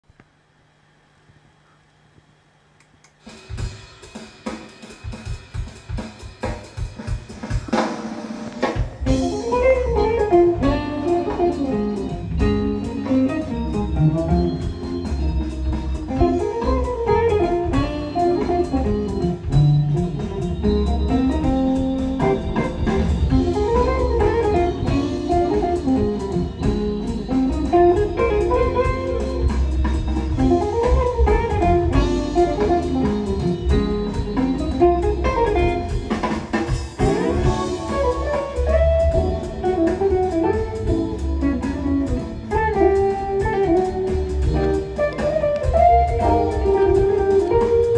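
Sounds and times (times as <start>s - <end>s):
jazz over loudspeakers: 3.5s - 47.9s.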